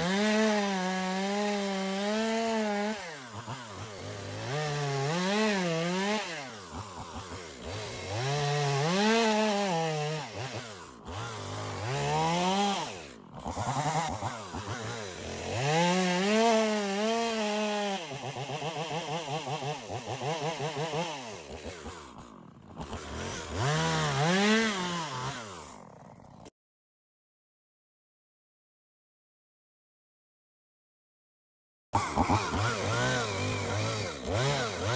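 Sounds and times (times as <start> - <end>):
chainsaw cutting logs: 0.0 - 26.5, 32.0 - 34.9.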